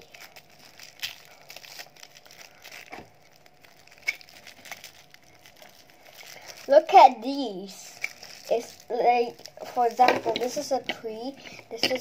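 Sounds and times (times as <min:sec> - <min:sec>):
faint crinkling: 0:00.0 - 0:12.0.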